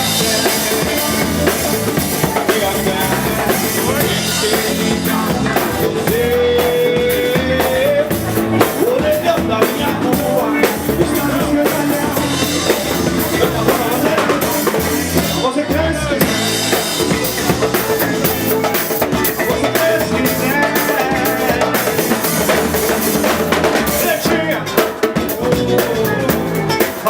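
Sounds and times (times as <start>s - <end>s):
drum kit beat: 0.0s - 27.0s
live band playing: 0.0s - 27.0s.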